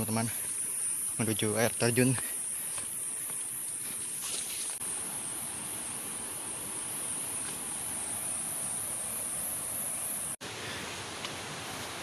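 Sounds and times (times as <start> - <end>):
high-pitched insect chorus: 0.0 - 11.1
background hiss: 0.0 - 12.0.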